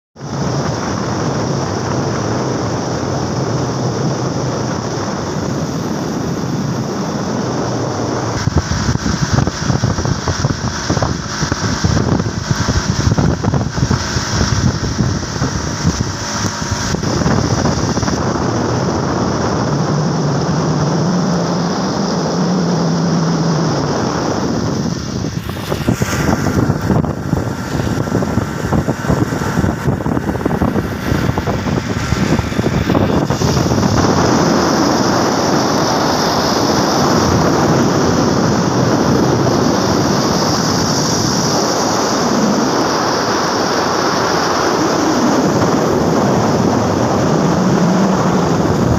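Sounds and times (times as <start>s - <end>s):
wind rushing over microphone: 0.2s - 48.9s
vehicle road noise: 0.4s - 48.9s.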